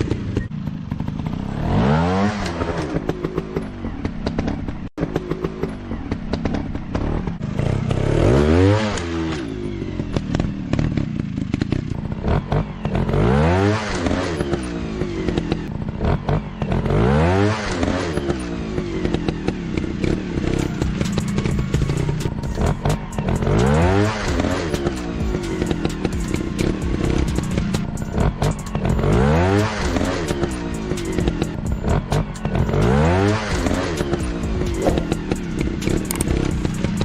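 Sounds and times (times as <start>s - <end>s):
motorcycle clattering: 0.0s - 13.2s, 17.6s - 37.0s
motorcycle engine revving: 0.0s - 37.0s.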